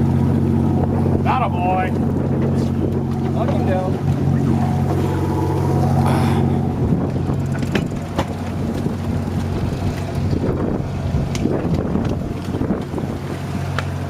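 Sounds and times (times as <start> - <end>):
boat engine rumbling: 0.0 - 14.0
wind on microphone: 0.0 - 14.0.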